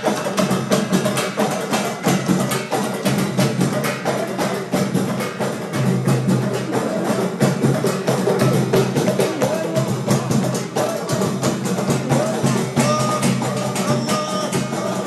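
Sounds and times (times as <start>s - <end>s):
frame drums with jingles: 0.0s - 15.0s.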